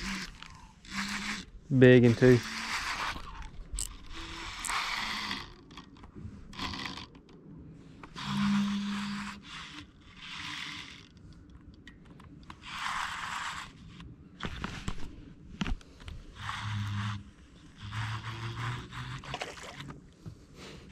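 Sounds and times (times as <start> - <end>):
fishing reel cranking: 0.0 - 7.4, 8.0 - 11.4, 12.4 - 15.0, 16.1 - 19.9.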